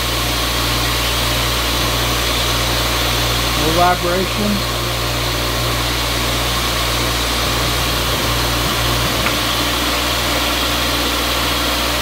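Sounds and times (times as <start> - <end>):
grinder motor humming: 0.0 - 12.0.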